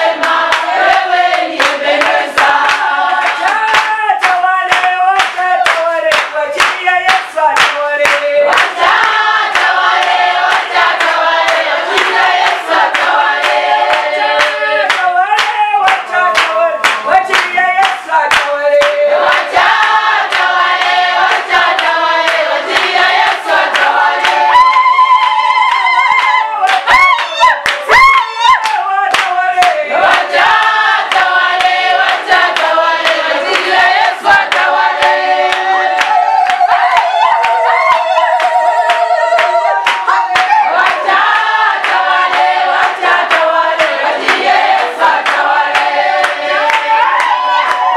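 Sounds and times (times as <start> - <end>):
group singing a worship song: 0.0 - 47.9
hand clapping: 0.0 - 47.9.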